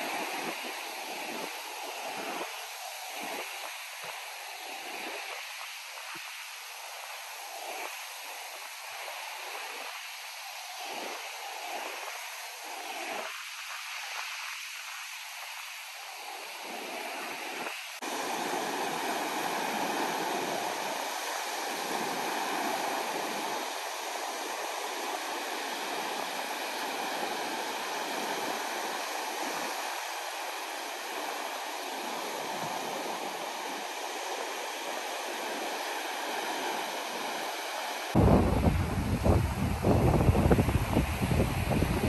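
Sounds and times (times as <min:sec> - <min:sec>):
small waves breaking on beach: 0:00.0 - 0:42.0.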